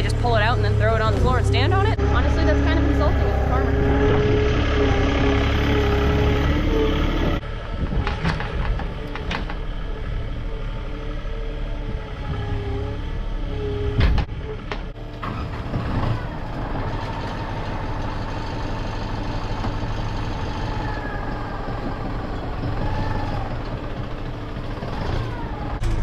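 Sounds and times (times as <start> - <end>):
engine running with whine: 0.0 - 26.0.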